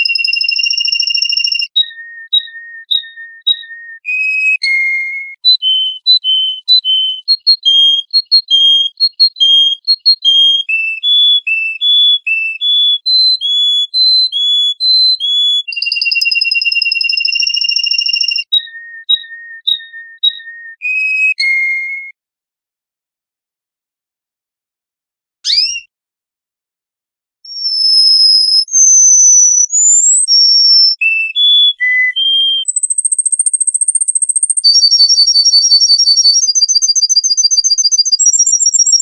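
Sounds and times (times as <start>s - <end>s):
bird whistling song: 0.0s - 22.2s, 25.4s - 25.9s, 27.5s - 39.0s.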